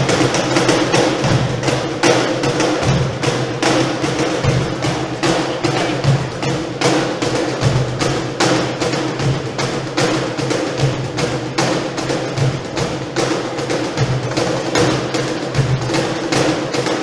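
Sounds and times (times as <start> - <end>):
cajon drumming: 0.0 - 17.0.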